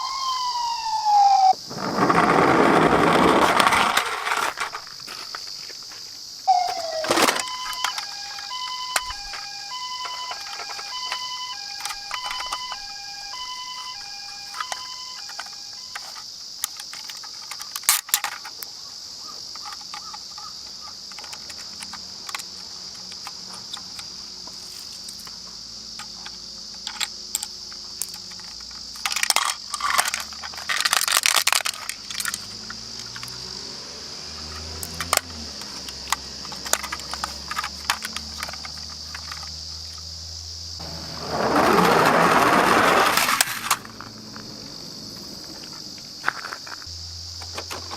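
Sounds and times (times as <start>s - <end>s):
toy cars rolling rattle: 1.1s - 5.5s, 6.5s - 18.6s, 19.5s - 40.0s, 40.8s - 47.9s
toy cars clicking and clattering: 1.8s - 5.5s, 6.5s - 33.6s, 34.3s - 40.1s, 40.8s - 47.9s.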